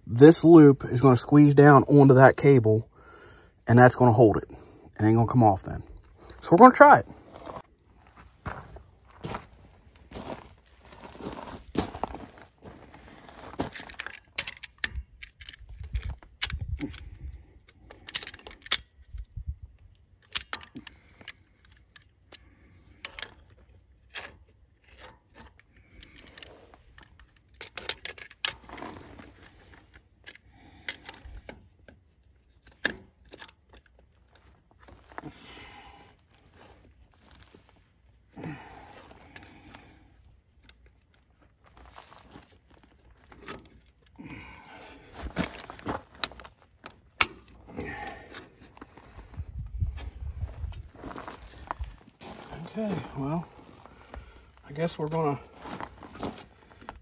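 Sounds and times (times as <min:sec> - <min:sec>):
steel cable clinking and scraping: 0:10.1 - 0:57.0.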